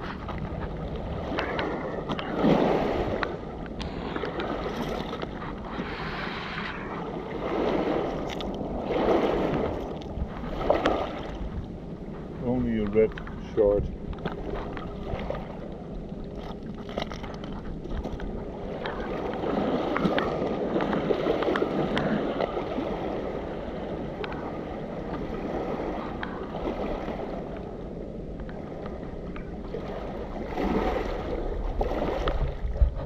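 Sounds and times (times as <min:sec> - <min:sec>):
small waves lapping: 0:00.0 - 0:33.0
wind on microphone: 0:00.0 - 0:33.0.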